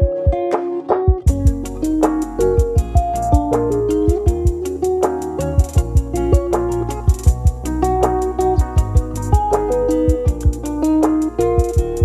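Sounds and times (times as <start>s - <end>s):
kick-drum beat: 0.0s - 12.0s
plucked-string melody: 0.0s - 12.0s.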